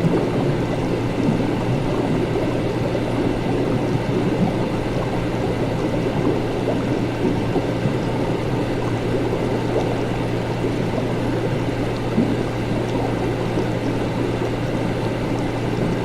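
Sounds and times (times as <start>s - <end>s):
liquid gurgling: 0.0s - 16.0s
low machine hum: 0.0s - 16.0s.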